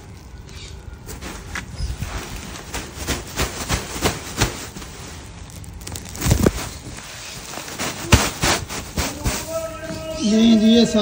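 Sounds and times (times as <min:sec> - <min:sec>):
plastic sack crackling: 0:00.0 - 0:11.0.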